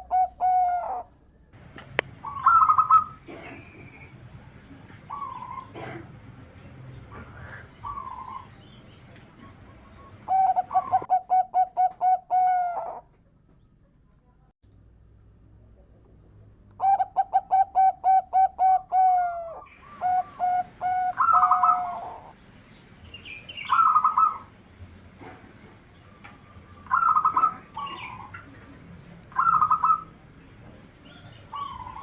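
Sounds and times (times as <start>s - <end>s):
dove cooing: 0.0s - 13.1s, 16.8s - 22.4s, 23.6s - 24.5s, 25.2s - 32.0s.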